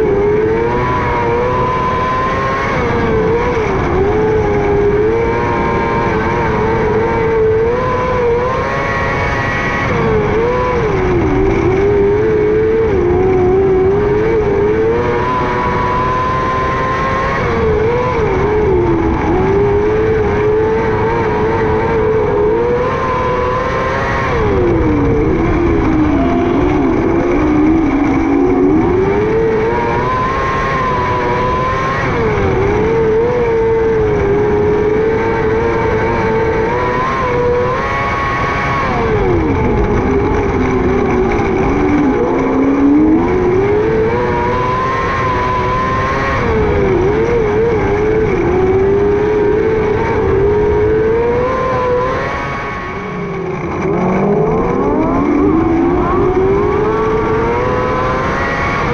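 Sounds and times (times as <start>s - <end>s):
racing engine revving: 0.0s - 58.9s.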